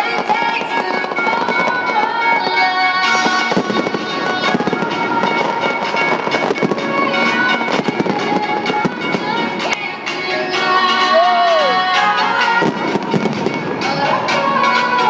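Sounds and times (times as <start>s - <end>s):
fireworks bursting and crackling: 0.0s - 15.0s
loud music over sound system: 0.0s - 15.0s.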